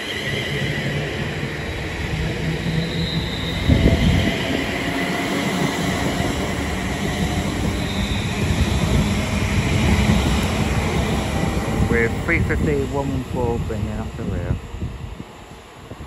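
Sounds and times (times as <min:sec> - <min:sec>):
electric whine: 0:00.0 - 0:16.0
train wheels rumbling on rail: 0:00.0 - 0:16.0.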